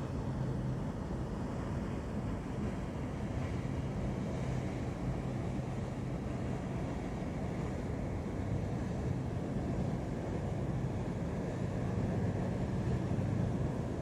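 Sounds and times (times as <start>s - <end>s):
ship engine humming: 0.0s - 14.0s.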